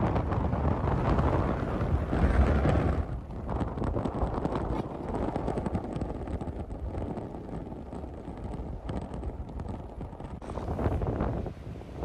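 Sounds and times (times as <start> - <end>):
wind gusting across microphone: 0.0 - 12.0.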